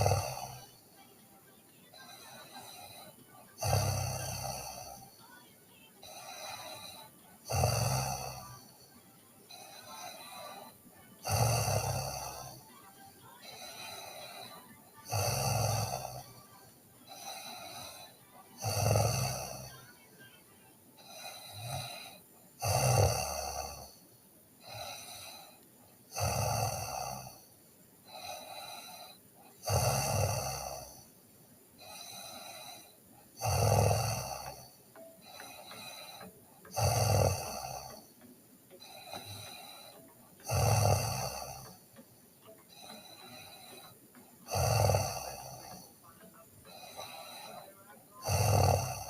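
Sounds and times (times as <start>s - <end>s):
girl snoring: 0.0s - 1.1s, 1.9s - 5.4s, 6.0s - 20.0s, 21.0s - 31.2s, 31.8s - 46.0s, 46.6s - 49.0s
soft breathing: 0.0s - 1.3s, 1.9s - 5.4s, 6.0s - 20.0s, 20.9s - 49.0s.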